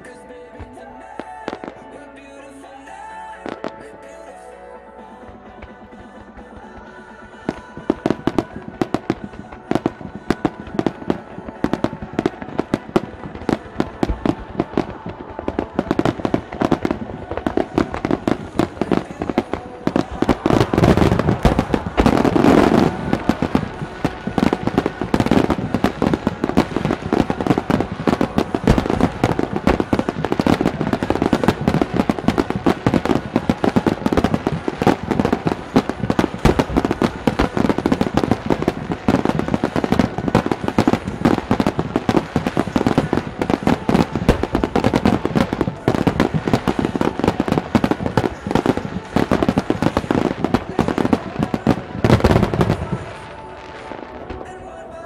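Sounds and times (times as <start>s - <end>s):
fireworks bangs and crackles: 5.2s - 54.9s.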